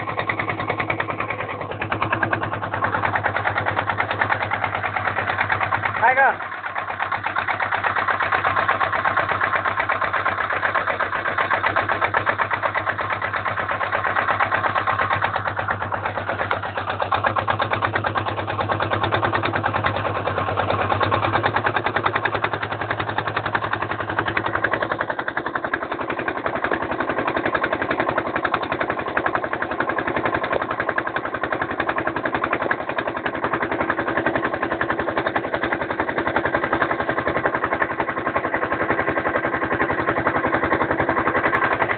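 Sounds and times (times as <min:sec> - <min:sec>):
boat engine chugging: 0:00.0 - 0:41.9.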